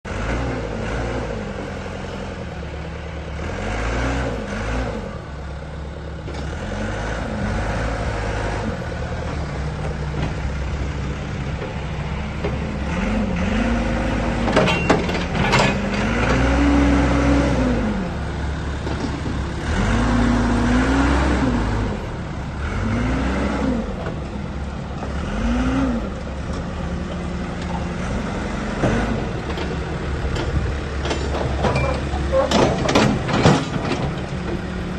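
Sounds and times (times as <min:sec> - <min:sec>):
diesel engine revving: 0:00.1 - 0:34.9.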